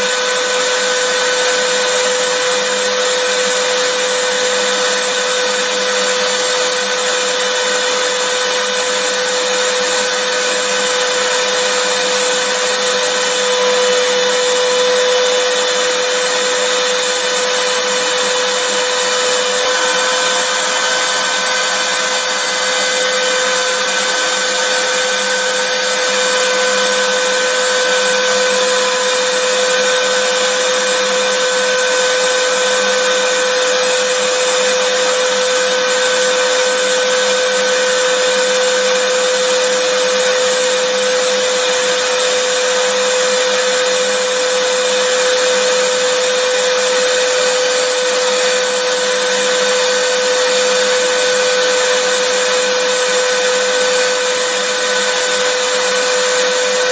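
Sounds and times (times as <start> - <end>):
vacuum cleaner motor running: 0.0 - 56.9.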